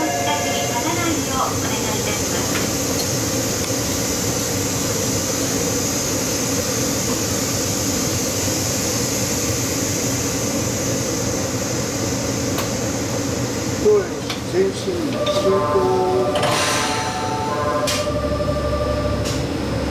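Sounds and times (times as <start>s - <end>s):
steady hum and hiss: 0.0s - 19.9s.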